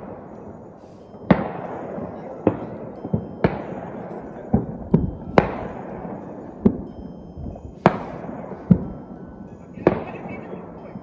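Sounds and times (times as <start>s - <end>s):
fireworks bangs echoing: 0.0s - 11.0s
steady low rumble: 0.0s - 11.0s.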